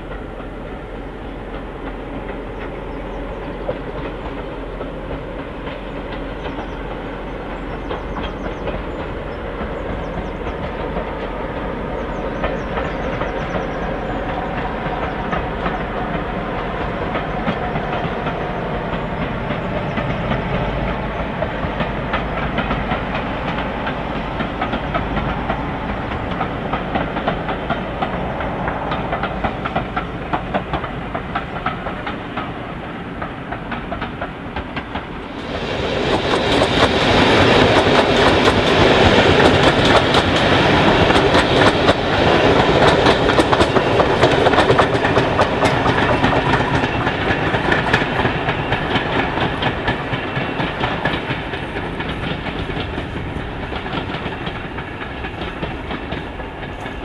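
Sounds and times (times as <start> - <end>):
diesel locomotive engine running: 0.0 - 57.0
wheels clicking over rail joints: 1.4 - 35.4, 36.1 - 57.0.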